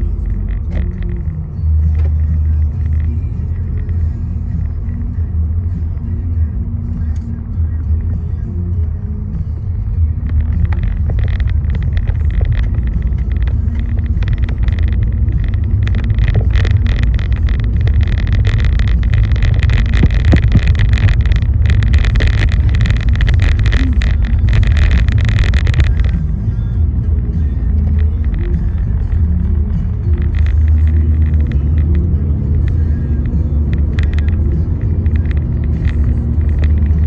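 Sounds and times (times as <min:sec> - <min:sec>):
car road rumble from inside: 0:00.0 - 0:37.0
dense crackling: 0:00.0 - 0:37.0.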